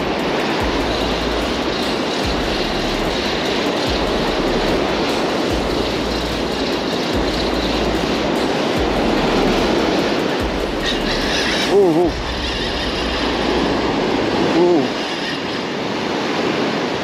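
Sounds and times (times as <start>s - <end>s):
surf: 0.0s - 17.0s
wind buffeting microphone: 0.0s - 17.0s.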